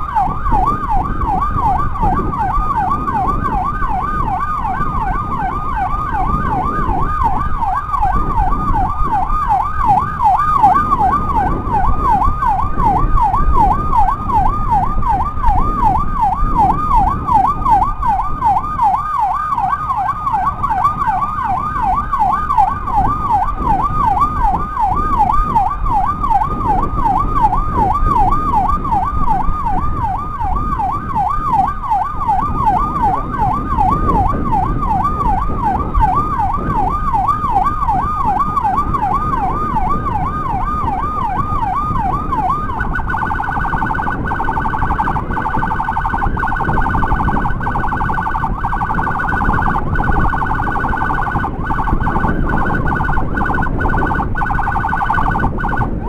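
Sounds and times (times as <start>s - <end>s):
motorcycle engine and road rumble: 0.0s - 56.0s
motorcycle siren yelping: 0.0s - 56.0s.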